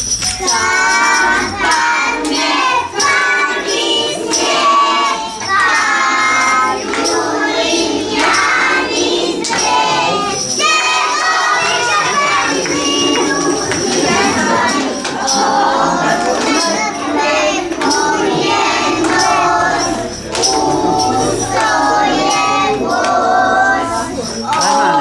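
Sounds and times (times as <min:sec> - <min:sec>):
children singing: 0:00.0 - 0:25.0.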